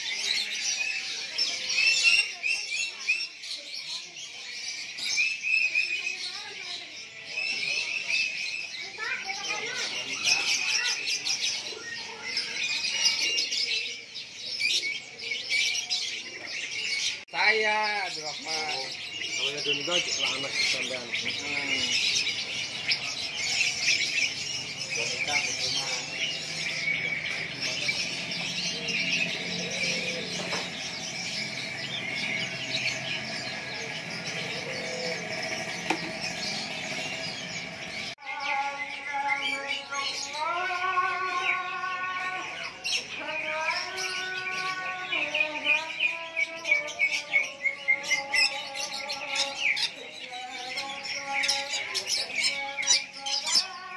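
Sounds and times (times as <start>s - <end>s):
songbirds chirping and singing: 0.0s - 53.9s.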